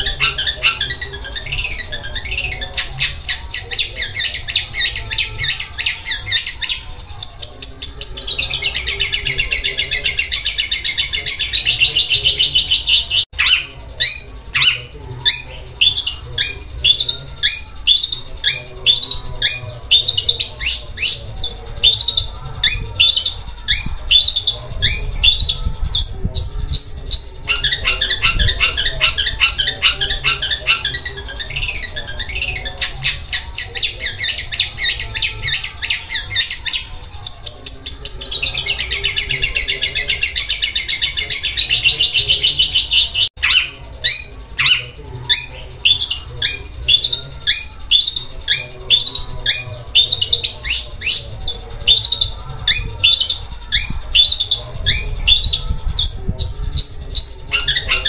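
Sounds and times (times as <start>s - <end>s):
bird singing harsh rapid chatter: 0.0s - 58.0s.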